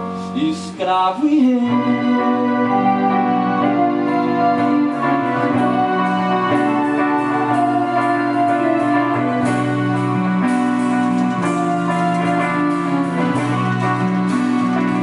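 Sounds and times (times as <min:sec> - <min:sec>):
rock band playing: 0:01.6 - 0:15.0.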